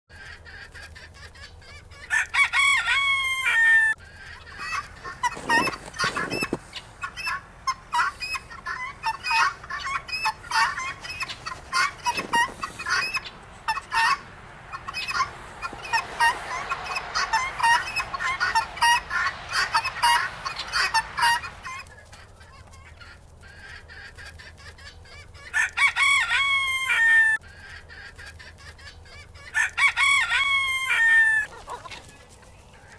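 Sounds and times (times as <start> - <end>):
guinea hens chattering: 0.1 - 2.2, 3.3 - 32.9
guinea hens calling harshly: 0.1 - 32.9.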